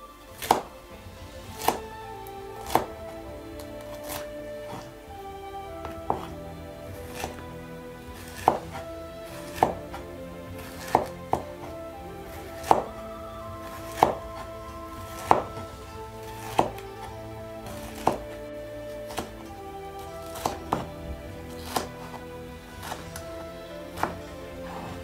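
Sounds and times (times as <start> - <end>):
background music: 0.0 - 25.0
knife cutting on wooden board: 0.4 - 0.7, 1.5 - 1.9, 2.6 - 3.0, 3.6 - 4.9, 5.8 - 7.5, 8.1 - 25.0.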